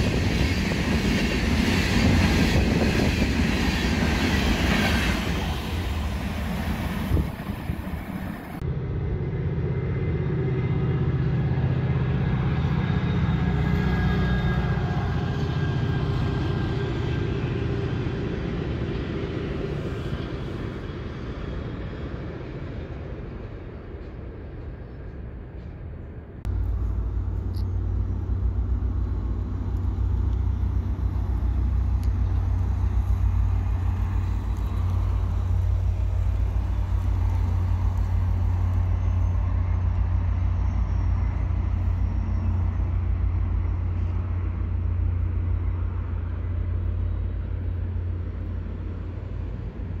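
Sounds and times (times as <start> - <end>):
distant train rumbling past: 0.0 - 50.0.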